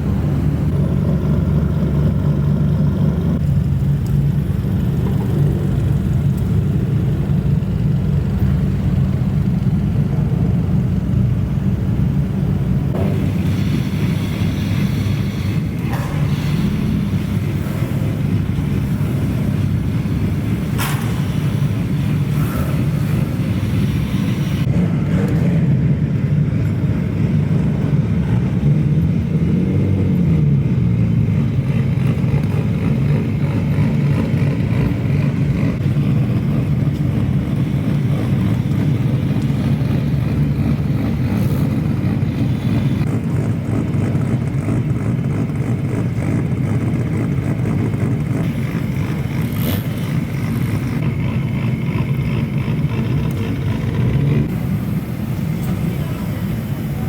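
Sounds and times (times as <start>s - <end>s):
car engine rev: 0.0s - 57.0s
car exhaust note: 0.0s - 57.0s.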